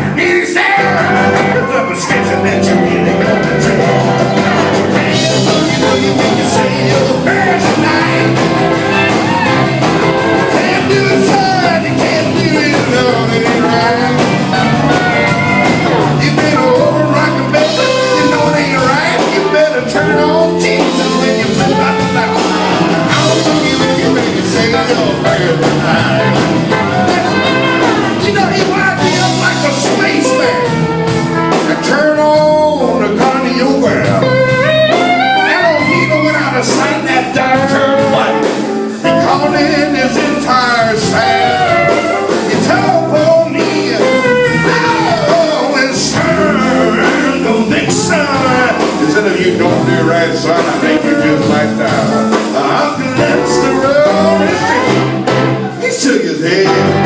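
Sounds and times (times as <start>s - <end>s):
blues-rock band playing: 0.0s - 57.0s.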